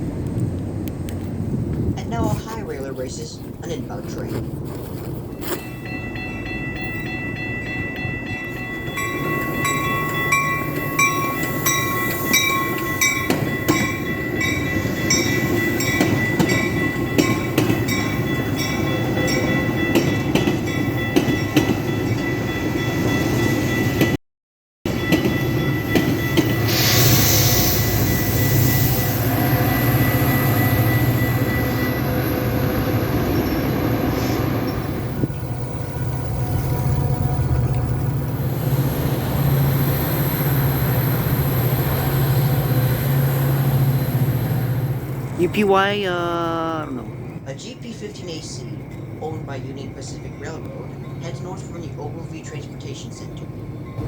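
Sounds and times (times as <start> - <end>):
train rumbling on rails: 0.0 - 24.2, 24.9 - 45.5.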